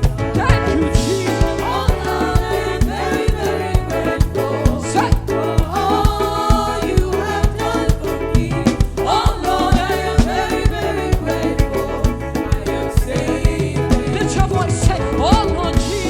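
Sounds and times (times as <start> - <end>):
driving drum beat: 0.0 - 16.0
gospel band playing: 0.0 - 16.0
keyboard: 0.0 - 16.0
person singing: 0.0 - 16.0.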